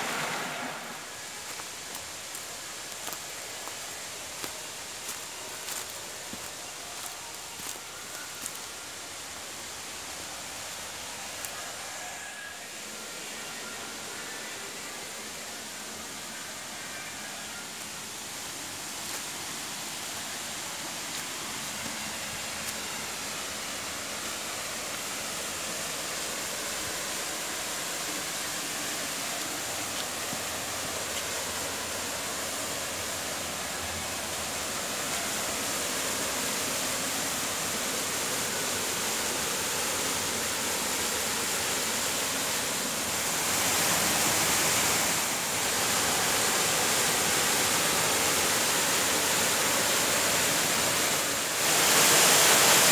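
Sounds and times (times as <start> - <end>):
water rushing over rocks: 0.0 - 12.0, 13.9 - 52.9.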